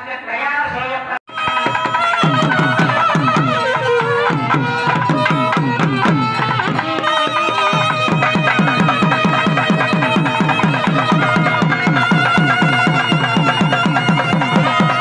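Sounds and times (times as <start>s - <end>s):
reedy wind instrument melody: 1.3s - 15.0s
rapid drum strokes: 1.4s - 15.0s.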